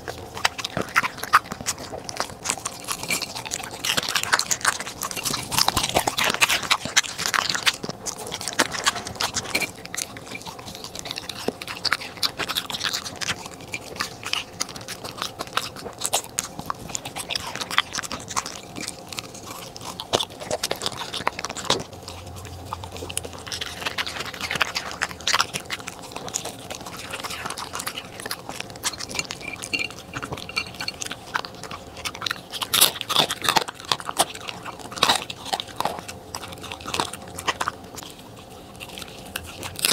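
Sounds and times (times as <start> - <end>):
dog chewing and crunching food: 0.0 - 39.9.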